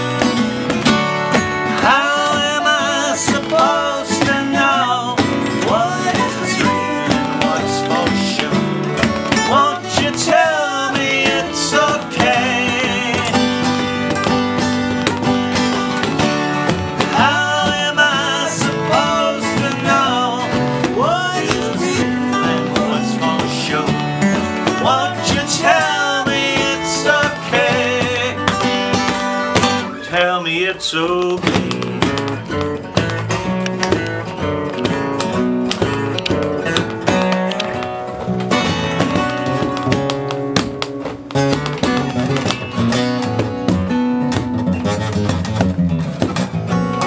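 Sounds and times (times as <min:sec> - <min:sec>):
acoustic guitars playing: 0:00.0 - 0:47.0.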